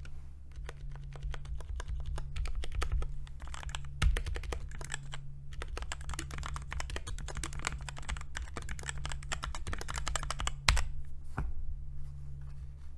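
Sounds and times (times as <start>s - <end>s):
mechanical keyboard typing: 0.0s - 10.9s
steady low hum: 0.0s - 12.9s.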